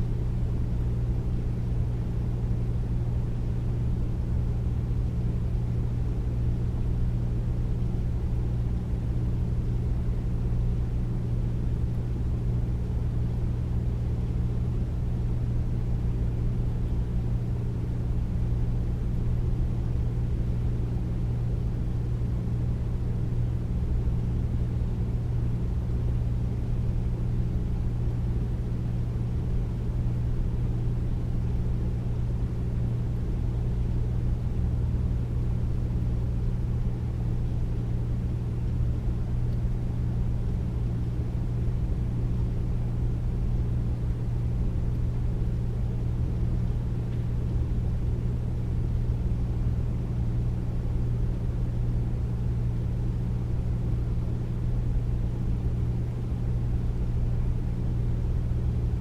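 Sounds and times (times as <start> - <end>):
air conditioner humming: 0.0 - 59.0.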